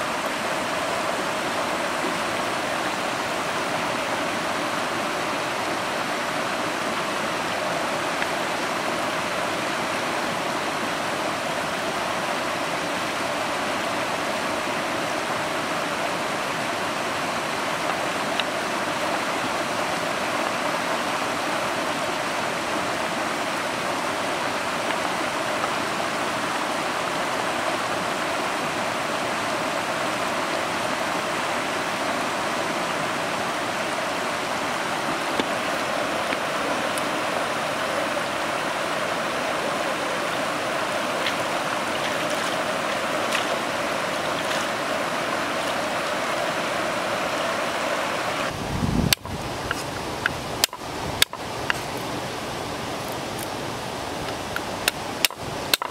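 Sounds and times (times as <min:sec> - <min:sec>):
water rushing in rocky stream: 0:00.0 - 0:55.9.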